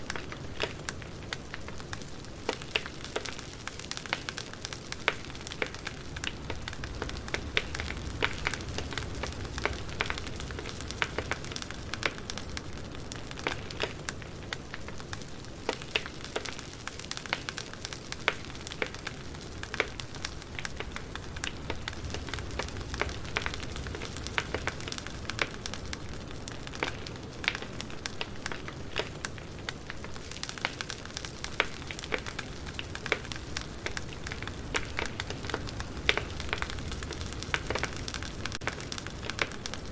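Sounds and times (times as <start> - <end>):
campfire crackling: 0.0 - 39.9
low steady background rumble: 4.5 - 16.9, 17.8 - 39.9.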